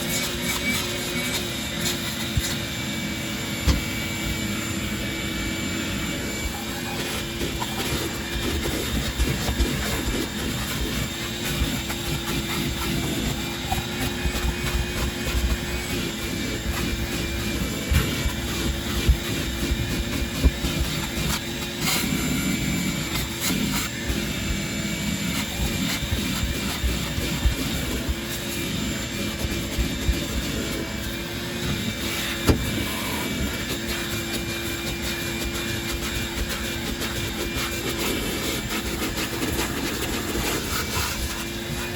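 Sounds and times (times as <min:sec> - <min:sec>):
motor humming: 0:00.0 - 0:41.9.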